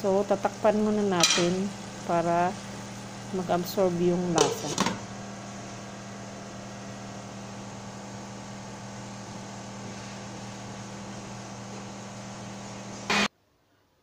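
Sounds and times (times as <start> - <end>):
kitchen appliance motor hum: 0.0 - 13.3.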